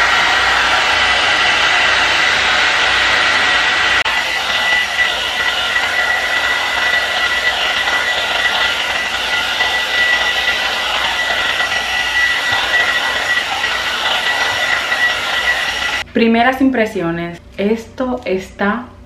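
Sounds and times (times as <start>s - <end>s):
fan motor whine: 0.0s - 16.1s
hair dryer brush blowing: 0.0s - 16.1s.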